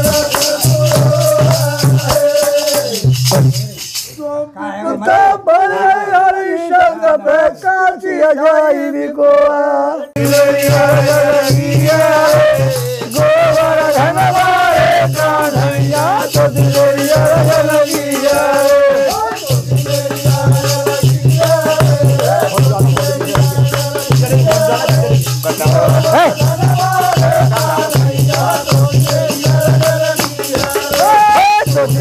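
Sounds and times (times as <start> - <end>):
drum and hand percussion beat: 0.0 - 4.2, 10.2 - 32.0
men singing folk song: 0.0 - 32.0.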